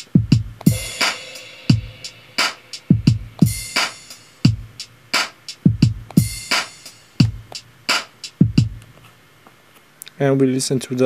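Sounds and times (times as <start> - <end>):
hip-hop drum beat: 0.0 - 9.0.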